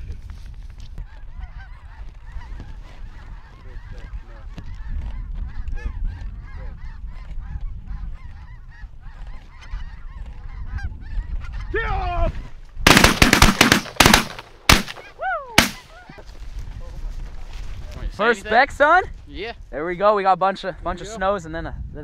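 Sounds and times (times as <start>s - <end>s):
wind rumble on microphone: 0.0s - 12.9s, 16.2s - 22.0s.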